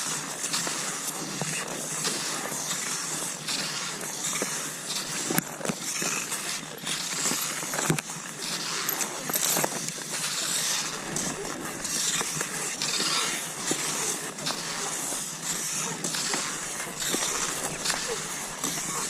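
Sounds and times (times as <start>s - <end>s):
sharp ski clicks: 0.0s - 19.0s
skis swishing over snow: 0.0s - 19.0s.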